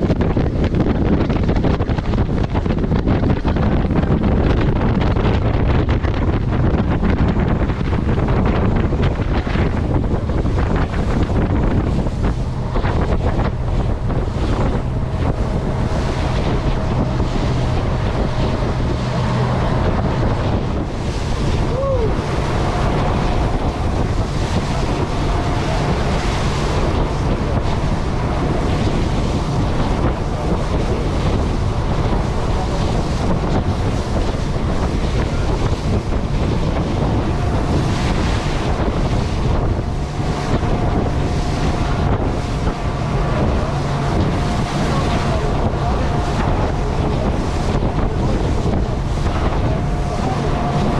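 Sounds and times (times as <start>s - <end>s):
outboard motor hum: 0.0s - 50.9s
waves splashing against hull: 0.0s - 50.9s
wind buffeting microphone: 0.0s - 50.9s.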